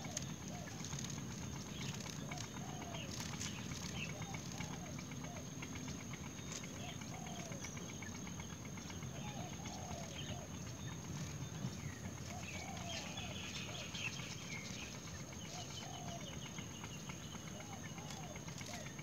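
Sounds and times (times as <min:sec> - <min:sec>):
buzzy bird chatter: 0:00.0 - 0:19.0.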